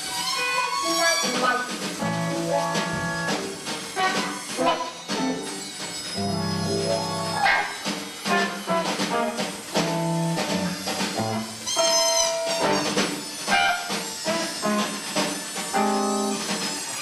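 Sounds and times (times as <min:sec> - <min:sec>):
orchestra with electric guitar: 0:00.3 - 0:16.6.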